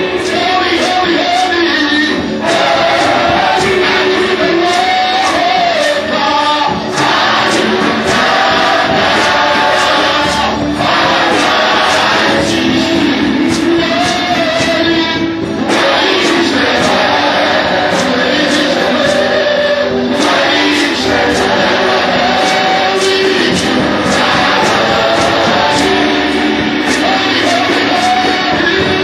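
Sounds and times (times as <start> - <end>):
band with guitar and beat: 0.0 - 29.0
choir-like singers: 0.0 - 29.0.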